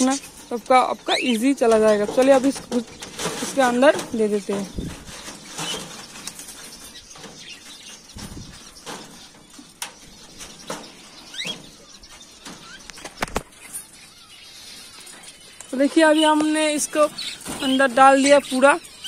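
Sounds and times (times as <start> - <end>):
metal tray scraping against wire: 0.0 - 13.9, 14.7 - 19.0
bird chirp: 0.0 - 19.0.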